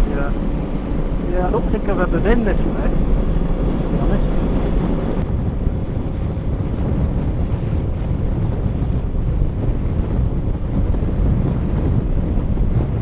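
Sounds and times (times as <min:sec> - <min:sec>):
motorcycle engine and road noise: 0:00.0 - 0:13.0
wind buffeting microphone: 0:00.0 - 0:13.0.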